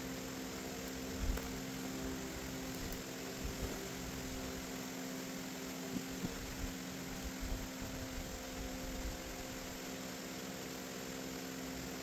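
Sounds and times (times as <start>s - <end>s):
steady hum with tones: 0.0s - 12.0s.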